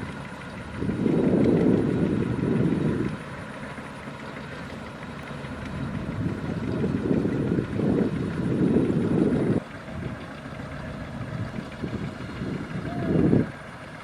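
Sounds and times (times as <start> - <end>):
combine harvester engine running: 0.0 - 14.0.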